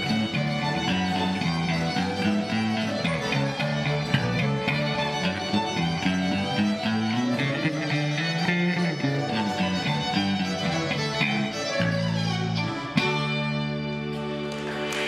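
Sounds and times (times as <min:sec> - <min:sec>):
piano accordion playing: 0:00.0 - 0:14.5
fiddle playing: 0:00.0 - 0:15.0.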